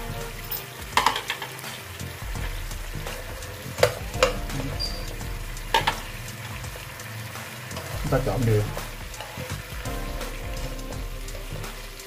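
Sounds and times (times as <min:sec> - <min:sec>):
chicken wings sizzling in pan: 0:00.0 - 0:12.0.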